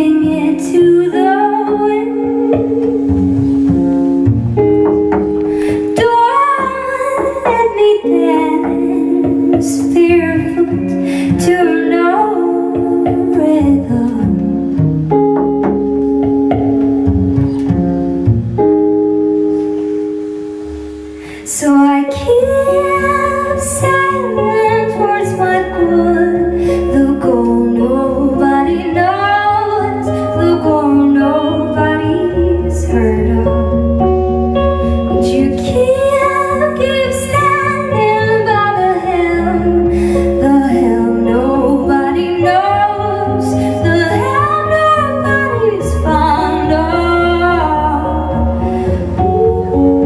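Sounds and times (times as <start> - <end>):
woman singing: 0.0 - 3.7, 5.6 - 14.8, 21.2 - 50.0
upright double bass: 0.0 - 6.1, 13.0 - 21.2, 22.2 - 50.0
electric guitar: 0.0 - 50.0.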